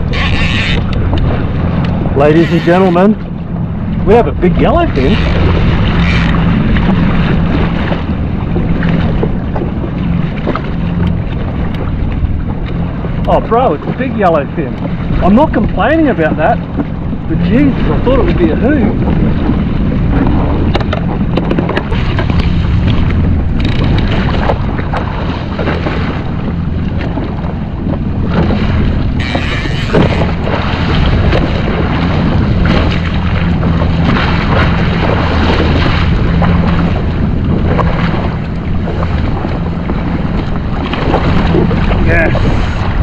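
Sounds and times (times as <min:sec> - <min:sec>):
jet ski engine running: 0:00.0 - 0:43.0
wind buffeting microphone: 0:00.0 - 0:43.0.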